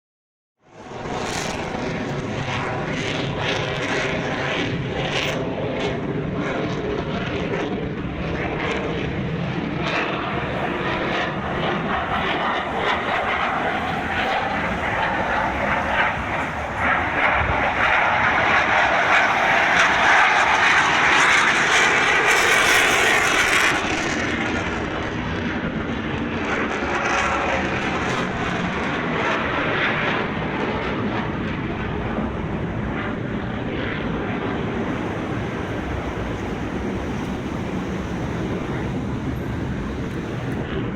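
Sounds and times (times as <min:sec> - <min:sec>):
airplane engine flying past: 0:00.7 - 0:40.9.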